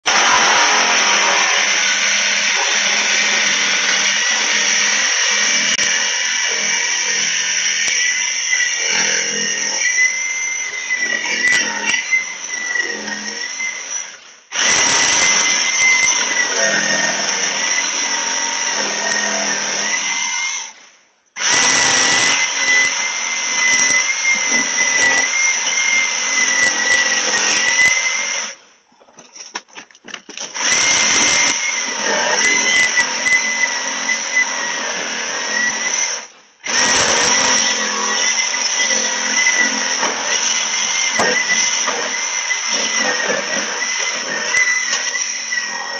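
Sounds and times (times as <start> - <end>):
power saw cutting metal pipe: 0.0 - 20.1, 21.4 - 28.6, 30.5 - 45.9.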